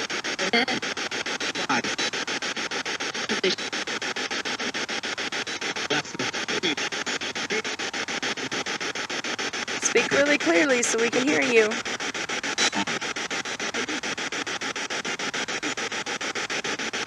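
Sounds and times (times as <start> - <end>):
pulsing radio hiss: 0.0 - 17.0
snatches of radio broadcast: 0.0 - 17.0.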